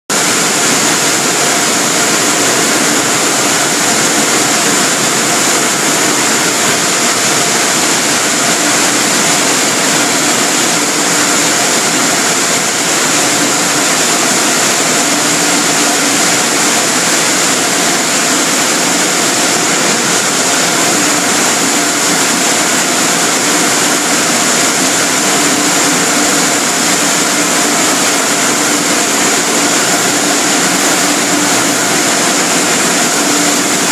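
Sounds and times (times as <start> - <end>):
car wash equipment roaring: 0.1 - 33.9
machinery hums: 0.1 - 33.9.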